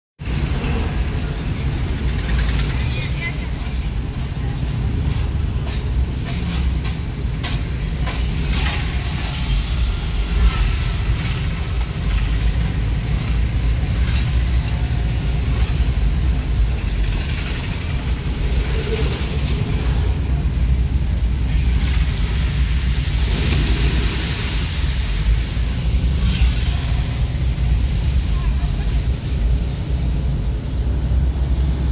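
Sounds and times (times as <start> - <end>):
street traffic: 0.2 - 31.9
vehicle engine and road rumble: 0.2 - 31.9.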